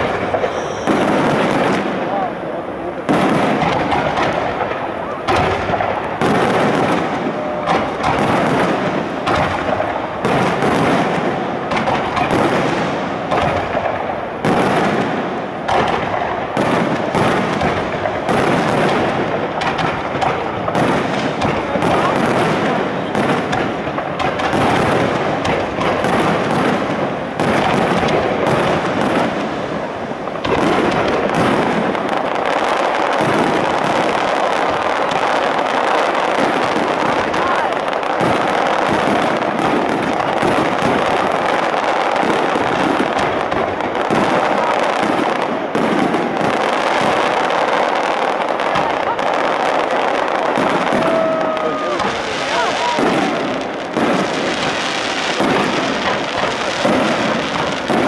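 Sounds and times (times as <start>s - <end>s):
firework shells bursting: 0.0s - 2.1s, 3.0s - 58.0s.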